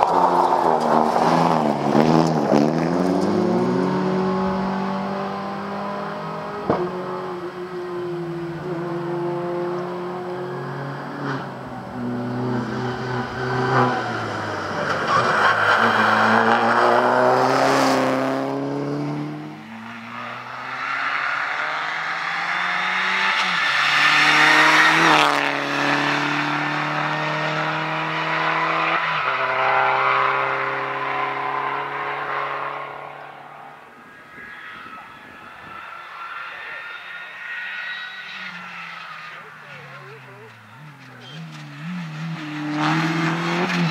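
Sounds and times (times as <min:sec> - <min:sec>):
car rushing past: 0:00.0 - 0:43.9
rally car engine revving: 0:00.0 - 0:43.9.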